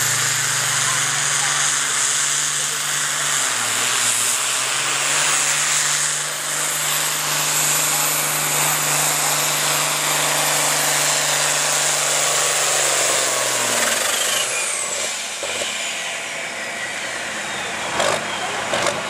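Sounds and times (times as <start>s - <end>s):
high whine: 0.0s - 19.0s
tractor diesel engine running hard: 0.0s - 19.0s.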